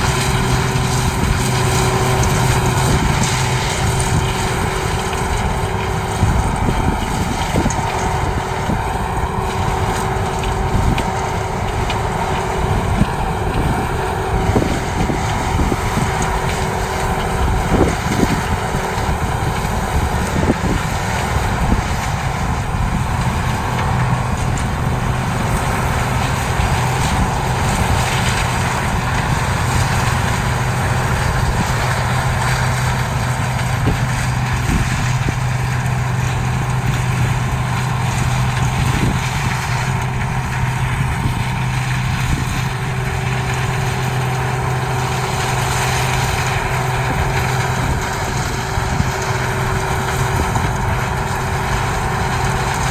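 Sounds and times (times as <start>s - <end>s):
combine harvester running: 0.0s - 52.9s
steady low hum: 0.0s - 52.9s.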